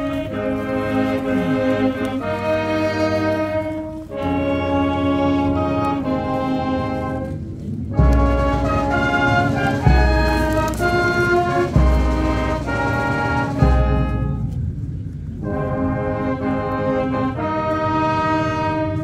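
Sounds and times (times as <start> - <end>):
solemn brass ceremonial music: 0.0 - 19.0.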